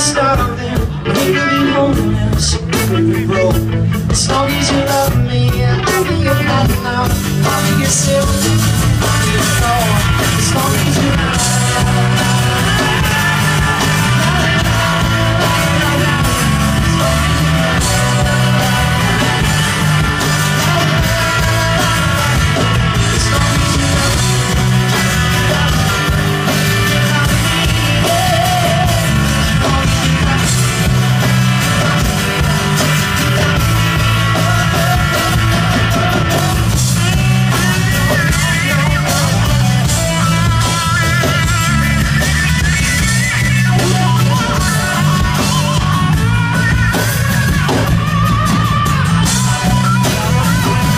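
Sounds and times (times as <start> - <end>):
live rock band: 0.0 - 50.9
person singing: 0.0 - 50.9.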